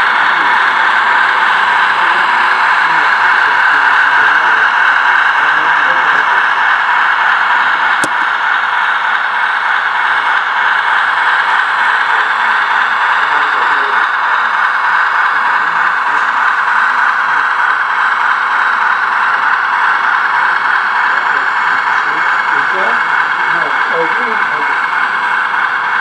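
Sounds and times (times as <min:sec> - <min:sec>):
model locomotive motor whirring: 0:00.0 - 0:26.0.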